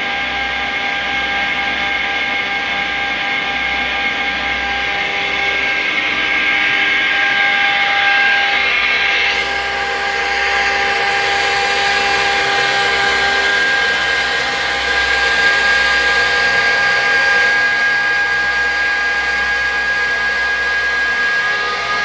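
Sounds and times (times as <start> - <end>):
compressor whining: 0.0 - 22.0.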